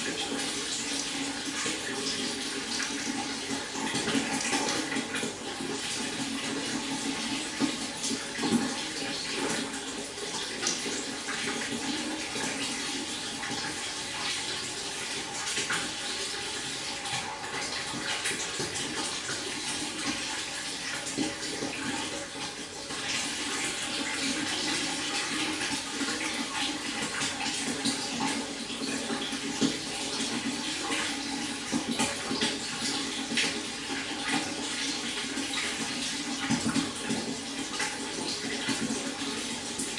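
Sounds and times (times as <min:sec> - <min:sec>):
small water splashes and trickles: 0:00.0 - 0:39.9.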